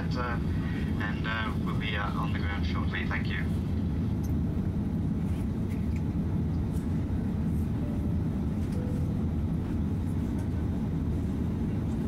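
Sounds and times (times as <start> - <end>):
airliner cabin rumble in flight: 0.0 - 12.0.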